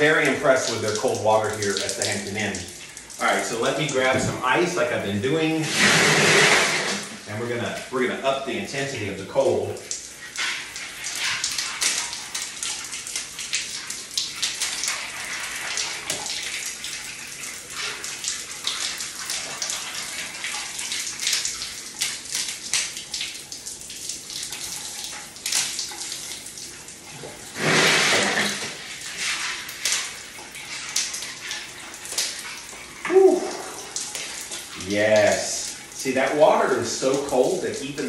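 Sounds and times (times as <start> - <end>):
sharp splashes and clicks: 0.0 - 4.8, 9.5 - 38.0
water pouring from tap: 0.0 - 38.0.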